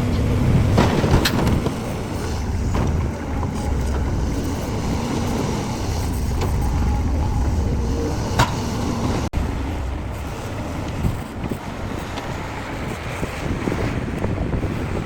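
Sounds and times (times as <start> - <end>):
diesel engine low rumble: 0.0 - 15.0.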